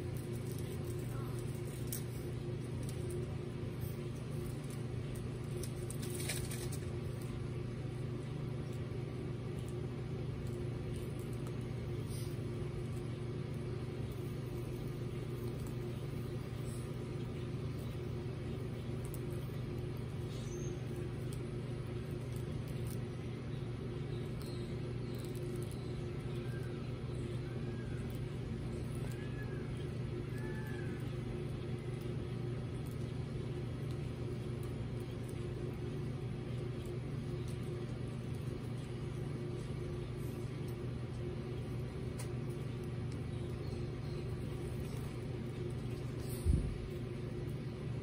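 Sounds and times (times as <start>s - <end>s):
low mechanical hum: 0.0s - 48.0s
tortoises feeding on lettuce: 0.0s - 48.0s.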